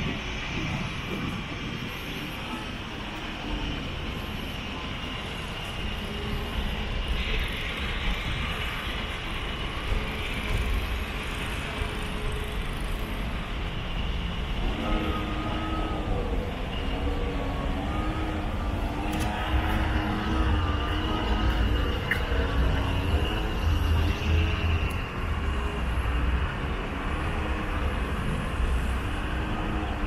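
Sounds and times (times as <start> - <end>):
cars and trucks passing: 0.0 - 30.0
traffic hiss: 0.0 - 30.0.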